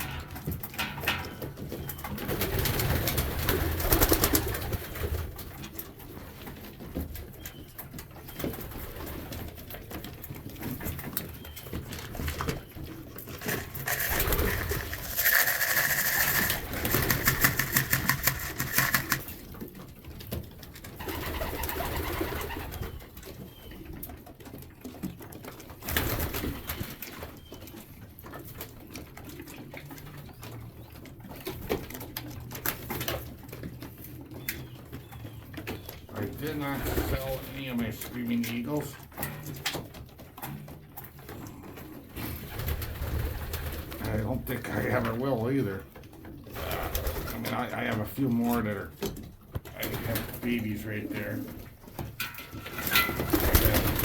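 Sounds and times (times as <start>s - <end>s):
pigeons cooing: 0.0s - 39.4s, 40.5s - 54.0s.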